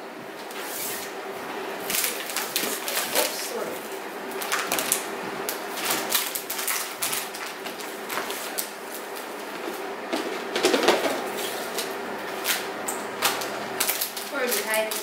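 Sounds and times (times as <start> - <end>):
wrapping paper rustling and crinkling: 1.8 - 15.0.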